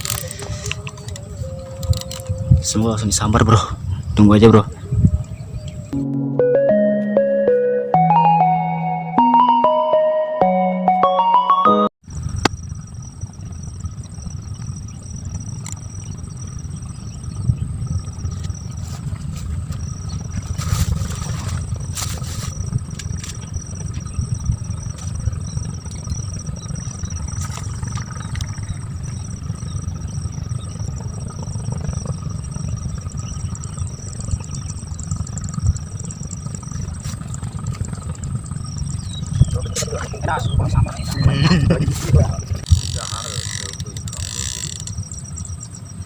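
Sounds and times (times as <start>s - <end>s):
wind buffeting the microphone: 0.0s - 6.0s, 12.1s - 46.0s.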